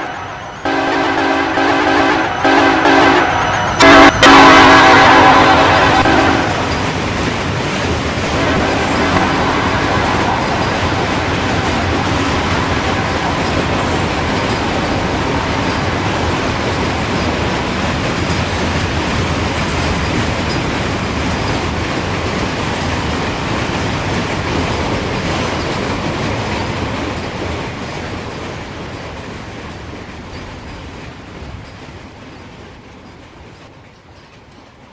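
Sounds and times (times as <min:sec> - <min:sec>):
freight train cars rumbling: 0:00.0 - 0:34.9.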